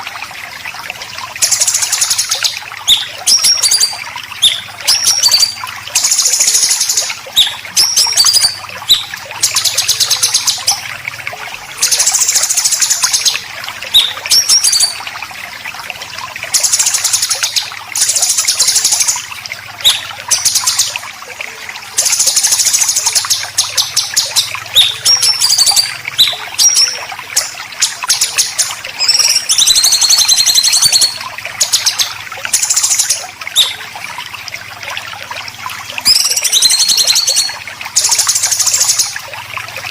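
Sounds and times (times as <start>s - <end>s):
running water trickling: 0.0s - 39.9s
songbirds trilling and whistling: 1.2s - 11.0s, 11.7s - 15.2s, 16.3s - 34.0s, 35.8s - 39.4s.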